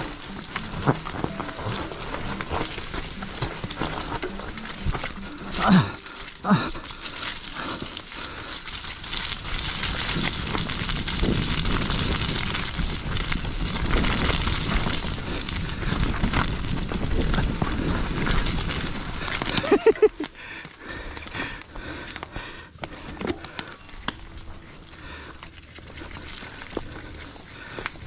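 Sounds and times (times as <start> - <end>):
bike rattling: 0.0 - 28.0
bike tyres crunching over stones: 0.0 - 28.0.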